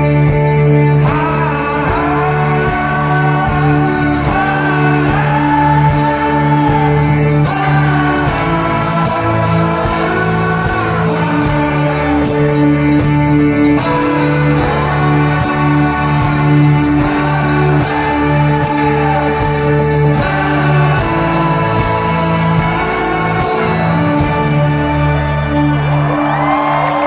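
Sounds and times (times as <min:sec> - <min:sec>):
guitar song: 0:00.0 - 0:27.0.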